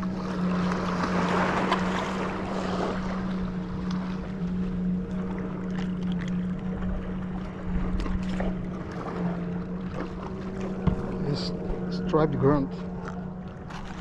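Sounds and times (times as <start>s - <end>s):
boat engine running: 0.0s - 14.0s
water noise: 0.0s - 14.0s
wind: 0.0s - 14.0s.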